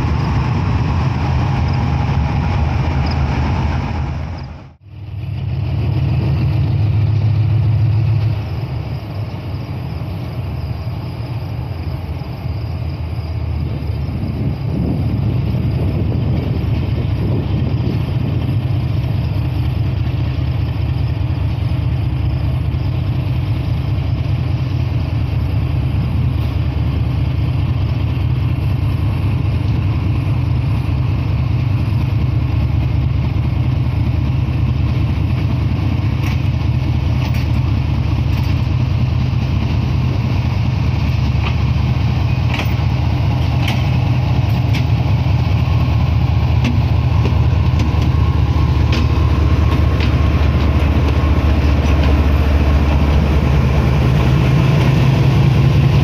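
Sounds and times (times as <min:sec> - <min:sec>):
locomotive engine throbbing: 0:00.0 - 0:56.0.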